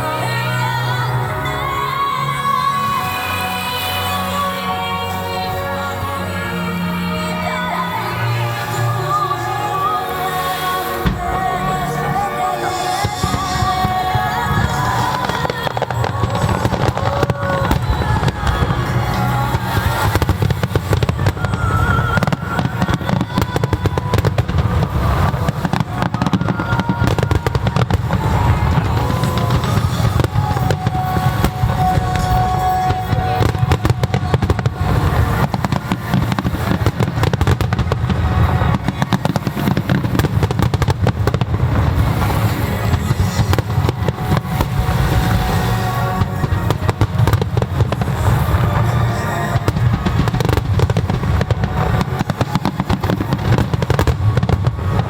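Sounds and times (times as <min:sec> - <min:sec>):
fireworks bursting: 0:00.0 - 0:55.0
music playing: 0:00.0 - 0:55.0.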